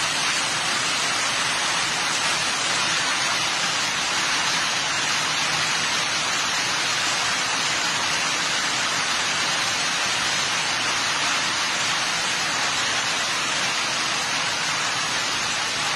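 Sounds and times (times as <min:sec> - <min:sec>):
heavy rain on grass: 0:00.0 - 0:15.9.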